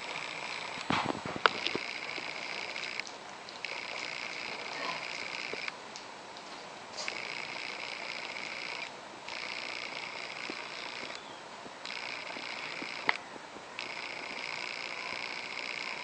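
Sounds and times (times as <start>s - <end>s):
insect trilling: 0.0s - 3.0s, 3.6s - 5.8s, 7.0s - 13.2s, 13.8s - 16.0s.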